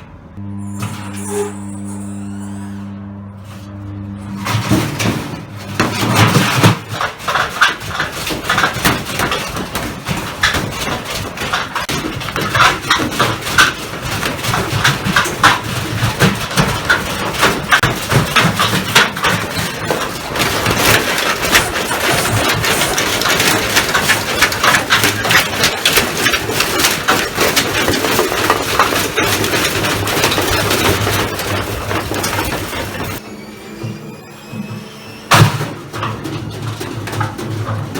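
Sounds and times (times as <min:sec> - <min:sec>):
washing machine running hum: 0:00.0 - 0:37.9
objects banging in washing machine drum: 0:03.7 - 0:33.2, 0:34.5 - 0:37.9.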